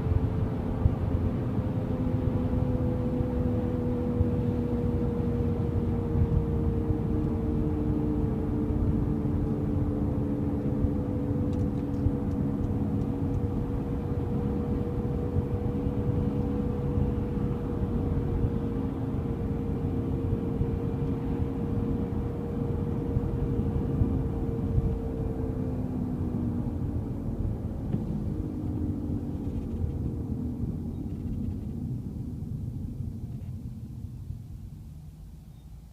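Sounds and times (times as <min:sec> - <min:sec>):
car droning hum: 0:00.0 - 0:35.9
road rumble: 0:00.0 - 0:35.9.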